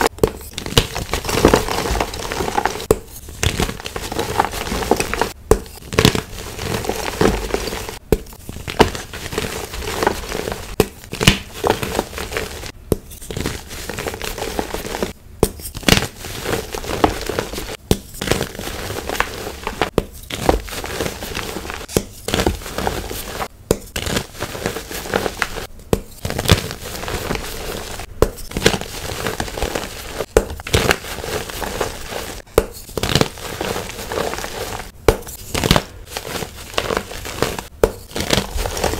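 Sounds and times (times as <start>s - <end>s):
chalk blocks crunching: 0.0s - 38.9s.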